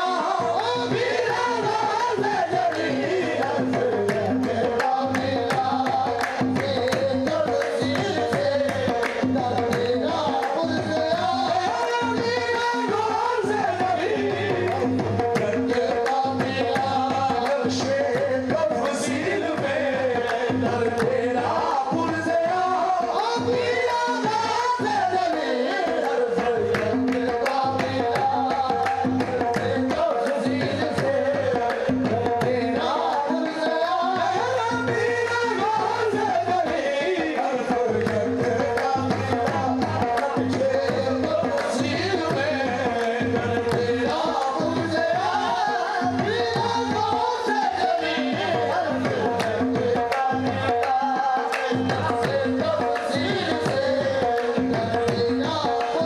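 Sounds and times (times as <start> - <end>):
harmonium: 0.0 - 56.0
tabla rhythm: 0.0 - 56.0.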